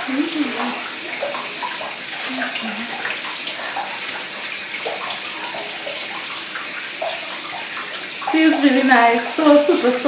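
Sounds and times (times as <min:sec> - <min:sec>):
shower water splashing on tiles: 0:00.0 - 0:10.0.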